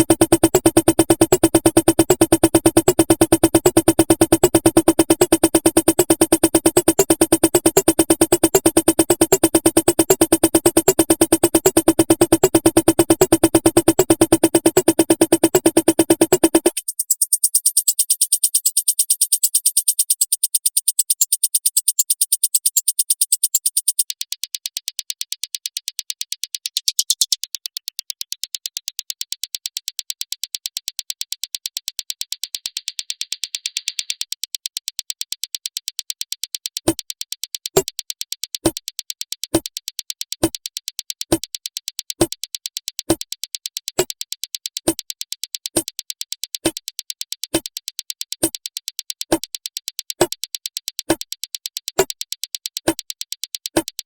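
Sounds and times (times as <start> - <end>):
rapid high ticking pattern: 0.0 - 54.0.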